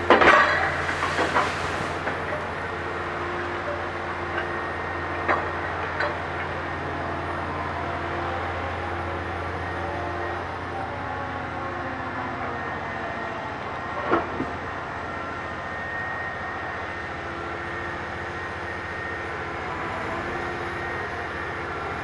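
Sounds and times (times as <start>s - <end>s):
heavy machine engine humming: 0.0s - 22.0s.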